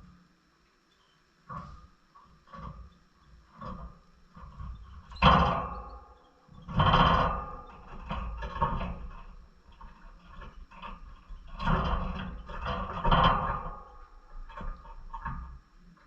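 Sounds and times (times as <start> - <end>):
birds knocking and rattling in cage: 1.5 - 15.6.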